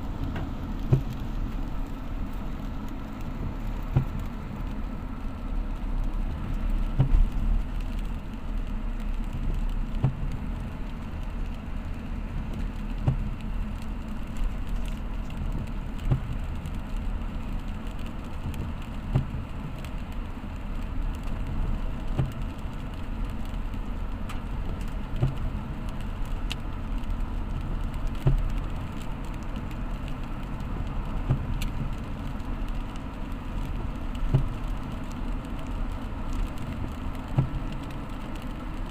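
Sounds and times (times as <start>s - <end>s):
vehicle engine and tyres rumbling: 0.0s - 38.9s.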